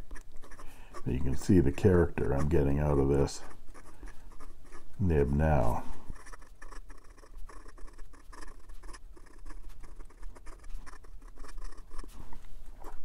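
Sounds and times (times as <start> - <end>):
pen nib scratching paper: 0.0 - 13.0.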